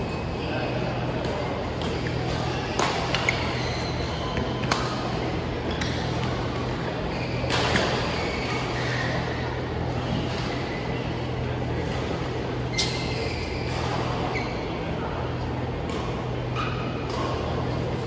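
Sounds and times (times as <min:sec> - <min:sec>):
indoor hall hum: 0:00.0 - 0:18.0.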